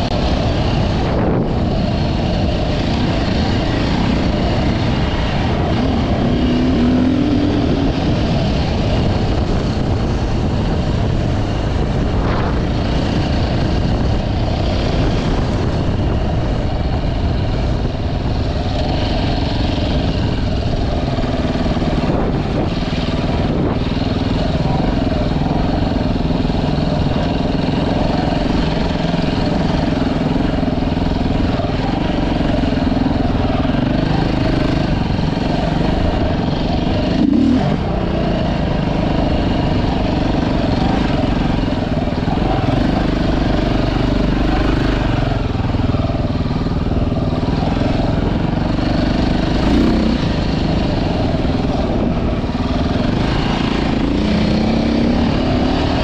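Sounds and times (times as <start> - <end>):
vehicle engine running: 0.0 - 56.0
wind noise on microphone: 0.0 - 56.0.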